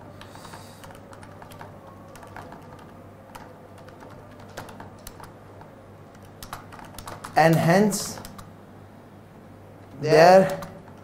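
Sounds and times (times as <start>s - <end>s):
laptop keyboard typing: 0.0s - 8.6s, 10.0s - 11.0s
low steady hum: 0.0s - 11.0s.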